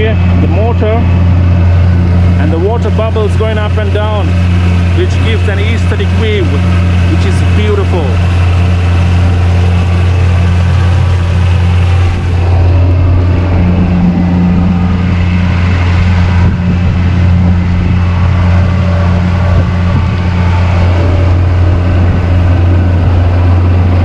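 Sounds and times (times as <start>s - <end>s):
boat motor humming: 0.0s - 24.0s
water churning and bubbling: 0.0s - 24.0s.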